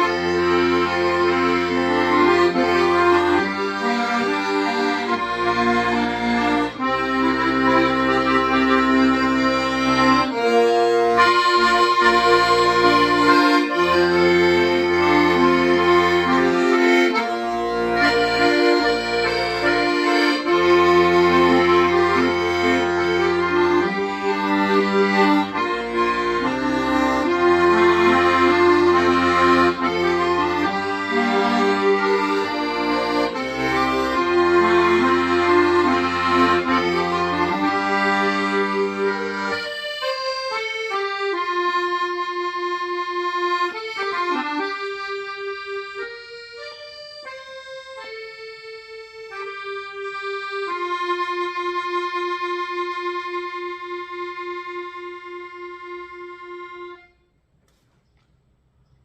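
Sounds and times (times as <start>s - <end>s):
accordion playing slow melody: 0.0s - 57.4s.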